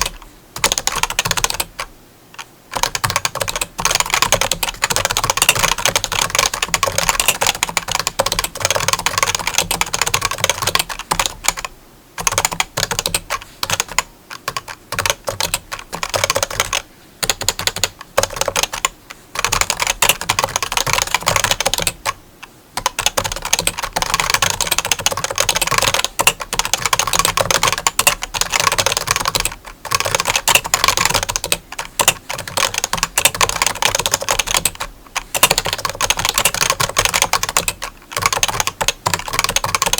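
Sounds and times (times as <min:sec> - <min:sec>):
rapid clicking and tapping: 0:00.0 - 0:22.2, 0:22.8 - 0:39.9.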